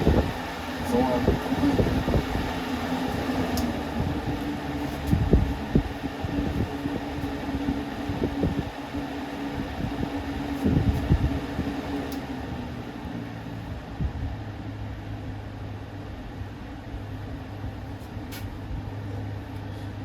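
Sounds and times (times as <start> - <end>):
fan motor hum: 0.0 - 20.0.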